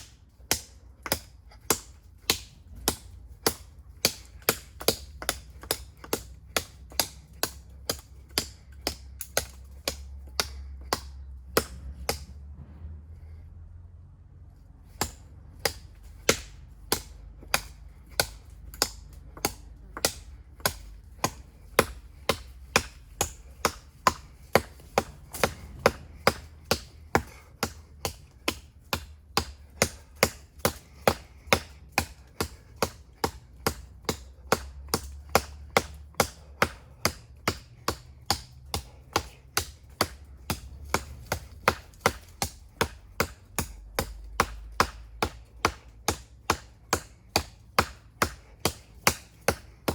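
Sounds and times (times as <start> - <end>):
knife chopping into tree trunk: 0.0 - 12.4, 14.9 - 49.9.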